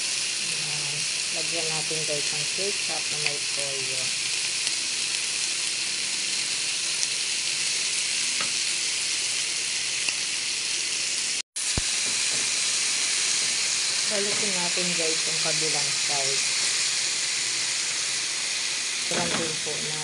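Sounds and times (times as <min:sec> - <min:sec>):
meat sizzling on a grill pan: 0:00.0 - 0:20.0.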